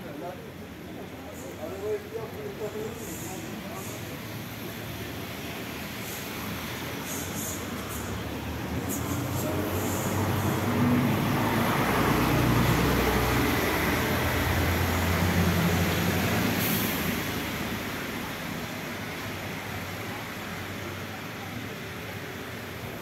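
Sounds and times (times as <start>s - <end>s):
bus engine rumble: 0.0s - 23.0s
tyre hiss on wet street: 0.0s - 23.0s.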